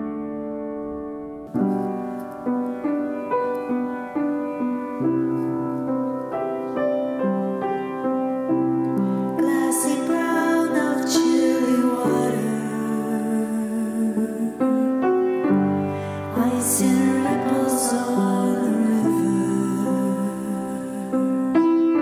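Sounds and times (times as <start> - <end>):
slow gentle piano: 0.0 - 22.0.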